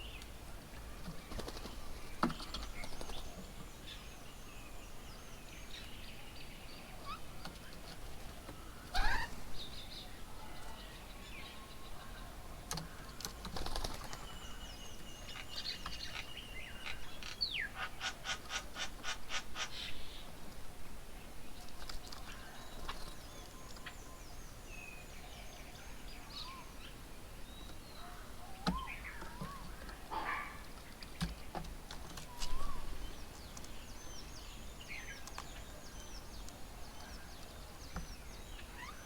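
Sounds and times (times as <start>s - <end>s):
birds calling and chirping: 0.0s - 20.6s, 21.5s - 39.0s.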